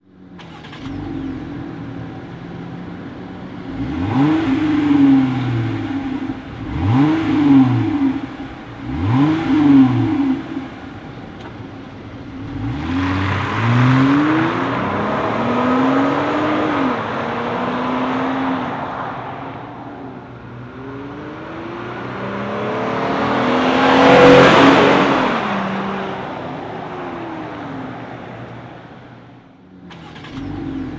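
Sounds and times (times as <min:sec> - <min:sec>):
engine revving through exhaust: 0:03.6 - 0:11.0, 0:12.2 - 0:30.9.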